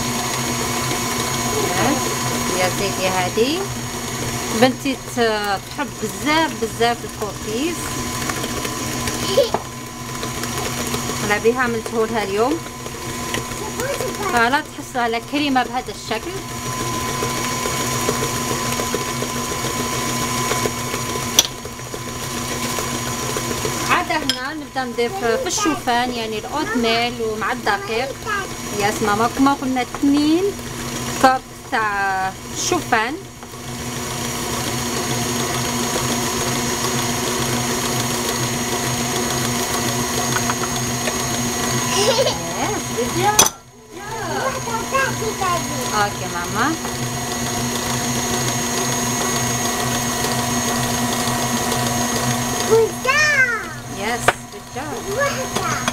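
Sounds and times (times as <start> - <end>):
stand mixer motor running: 0.0 - 55.9.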